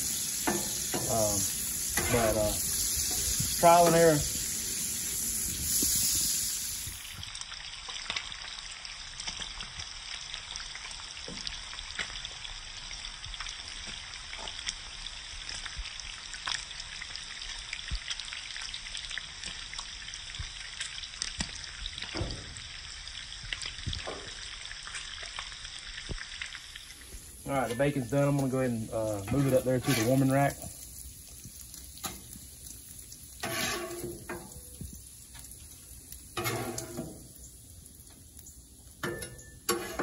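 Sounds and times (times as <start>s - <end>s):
bacon sizzling on a griddle: 0.0s - 40.0s
grease popping: 0.0s - 40.0s.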